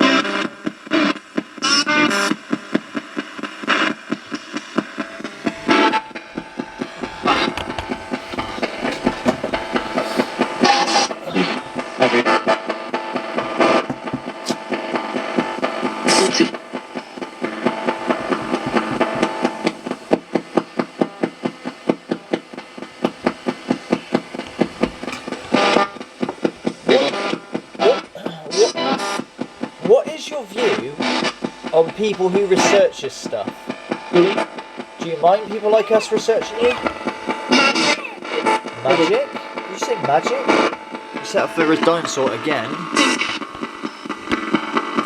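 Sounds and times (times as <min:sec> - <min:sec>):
radio sweeping through static: 0:00.0 - 0:45.0
snatches of broadcast music: 0:00.0 - 0:45.0
snatches of broadcast voices: 0:03.3 - 0:45.0.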